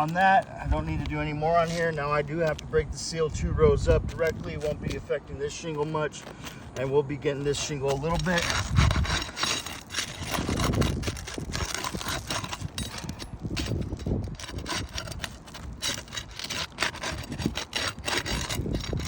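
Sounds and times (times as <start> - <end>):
roof shingles being pried and scraped: 0.0 - 2.8, 3.9 - 19.0.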